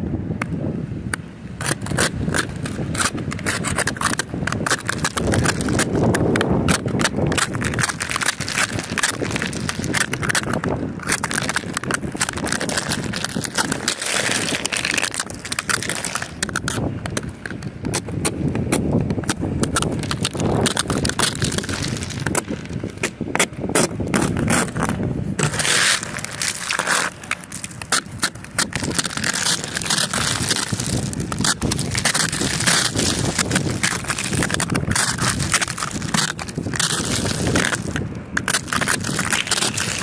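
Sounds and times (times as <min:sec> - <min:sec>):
ice crunching and scraping: 0:01.1 - 0:40.0.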